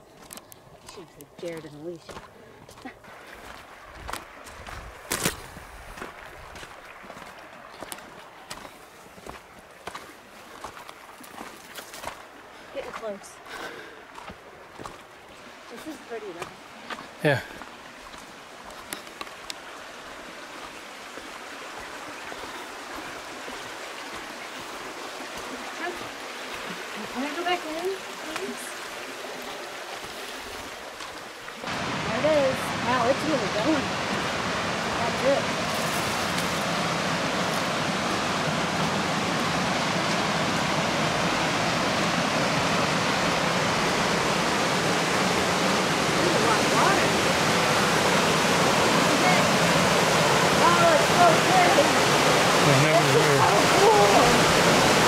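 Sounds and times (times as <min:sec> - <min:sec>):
creek water running: 0:00.0 - 0:55.0.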